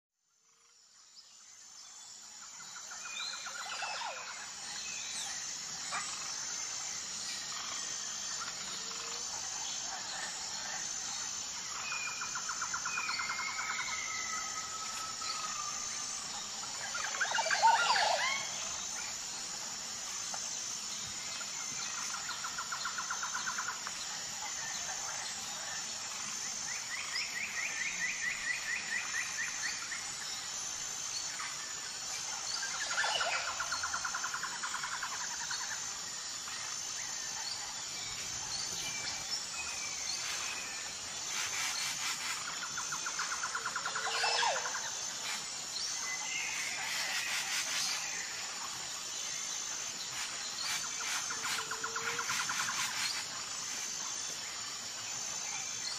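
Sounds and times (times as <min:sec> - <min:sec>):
high pulsing insect buzz: 0:00.3 - 0:55.9
bird calls and trills: 0:00.4 - 0:55.9.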